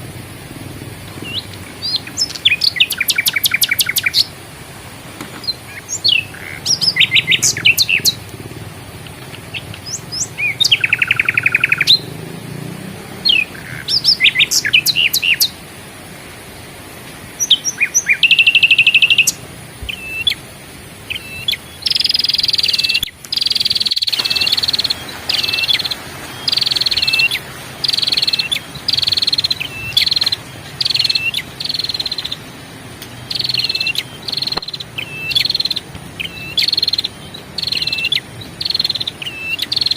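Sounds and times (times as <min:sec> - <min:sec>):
songbirds singing: 0:00.0 - 0:04.4, 0:05.2 - 0:15.7, 0:17.2 - 0:39.9.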